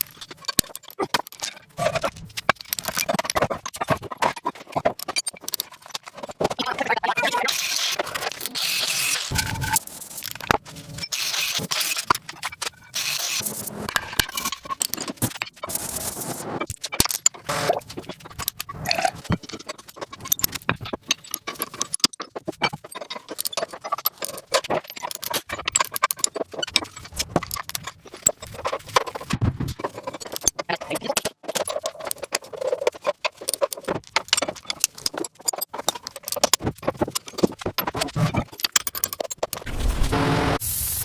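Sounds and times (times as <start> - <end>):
metal parts clinking and clattering: 0.0 - 15.8, 16.6 - 39.7.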